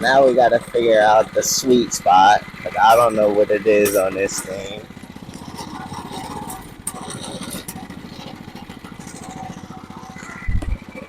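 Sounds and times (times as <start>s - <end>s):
small engine running unevenly: 0.0s - 11.0s.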